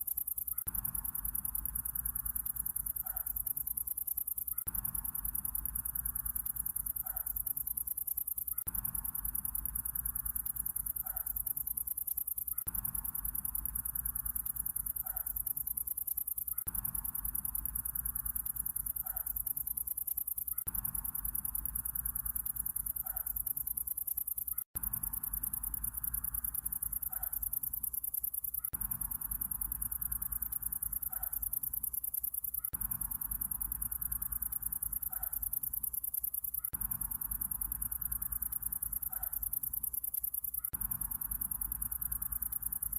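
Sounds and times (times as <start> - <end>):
crickets chirping: 0.0 - 42.9
night insects trilling: 0.0 - 42.9.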